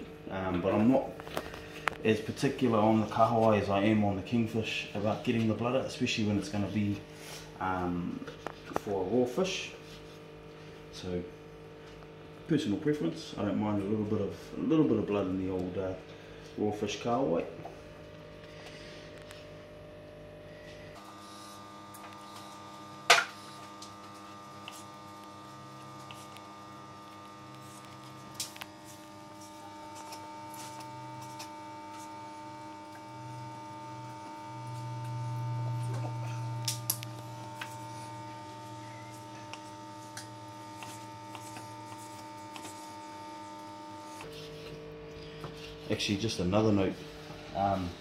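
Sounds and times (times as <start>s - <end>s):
steady hum: 0.0s - 48.0s.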